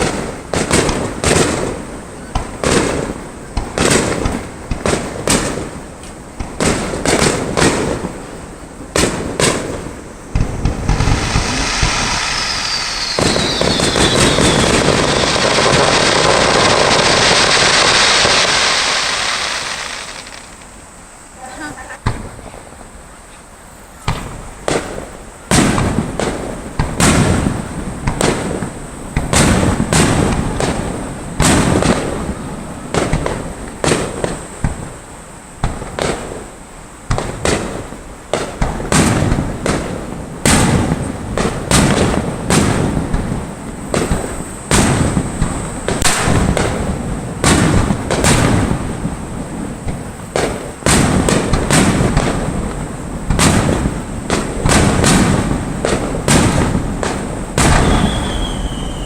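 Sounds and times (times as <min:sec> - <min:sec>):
fireworks bangs with echo: 0:00.0 - 0:20.8, 0:22.0 - 0:22.6, 0:23.9 - 0:59.0.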